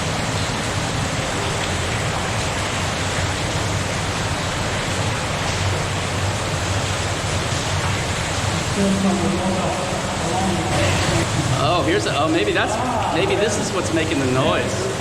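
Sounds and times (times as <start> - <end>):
rumble of falling water: 0.0 - 15.0
water rushing through tunnel: 0.0 - 15.0.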